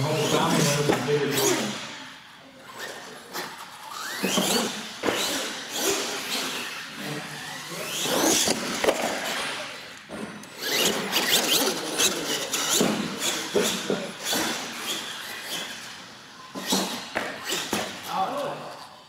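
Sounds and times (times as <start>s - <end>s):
toy truck motor whining: 0.0s - 18.2s.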